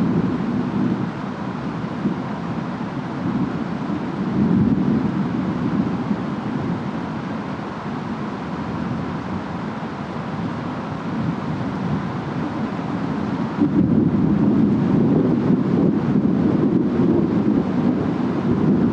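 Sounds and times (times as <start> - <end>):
distant wind and rain rumble: 0.0 - 18.9.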